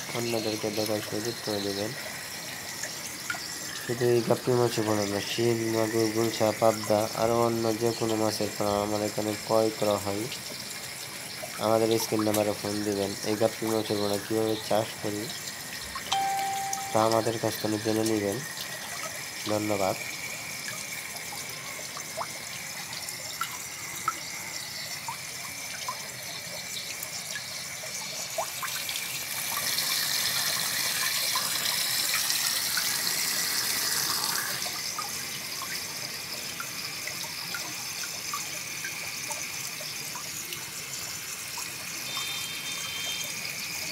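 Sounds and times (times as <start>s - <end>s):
water drips: 0.0s - 43.8s
water running: 0.0s - 43.9s.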